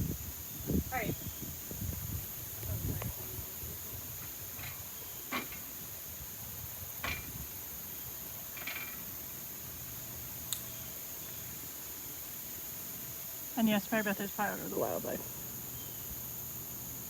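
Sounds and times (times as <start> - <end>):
insect chorus droning: 0.0 - 17.0.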